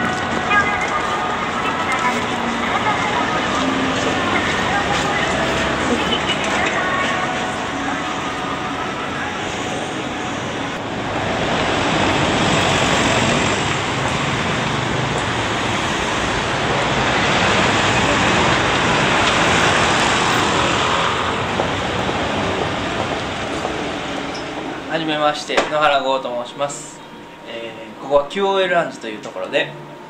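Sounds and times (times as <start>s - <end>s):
passing people: 0.0s - 30.0s
traffic: 0.0s - 30.0s.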